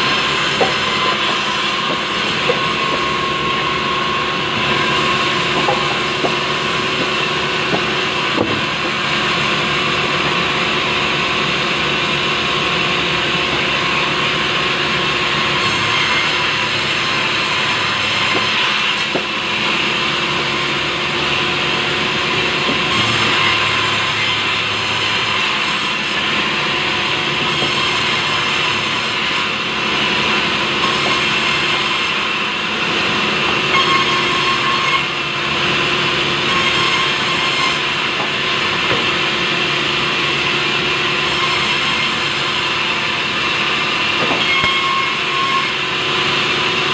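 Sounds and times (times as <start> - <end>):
band saw cutting through log: 0.0 - 46.9.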